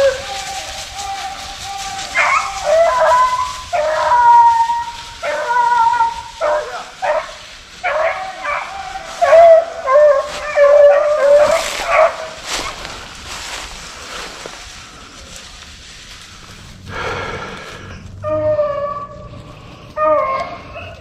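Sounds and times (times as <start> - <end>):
hounds baying: 0.0 - 14.5, 18.1 - 21.0.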